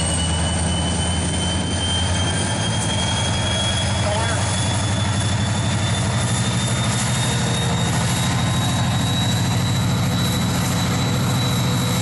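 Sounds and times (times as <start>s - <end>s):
diesel locomotive engine running: 0.0s - 12.0s
thin high whine: 0.0s - 12.0s.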